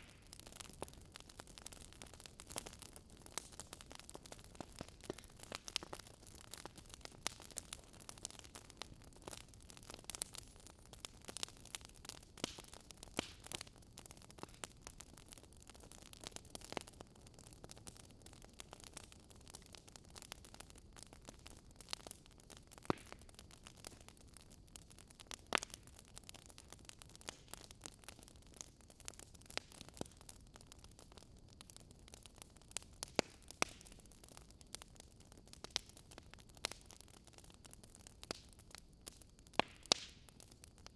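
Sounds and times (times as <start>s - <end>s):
log fire crackling: 0.0s - 40.9s.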